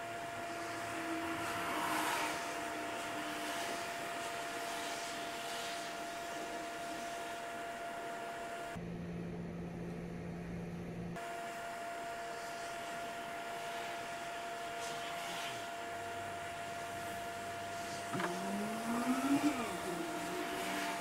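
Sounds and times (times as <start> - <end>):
machine hiss with whine: 0.0 - 8.8, 11.2 - 21.0.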